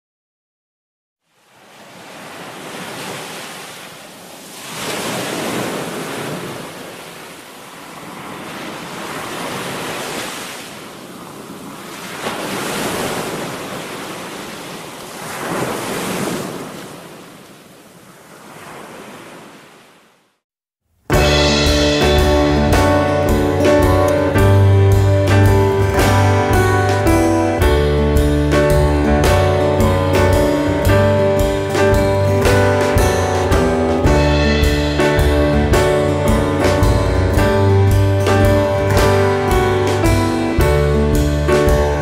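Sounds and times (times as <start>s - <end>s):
sea waves washing in: 1.2s - 20.4s, 21.1s - 42.0s.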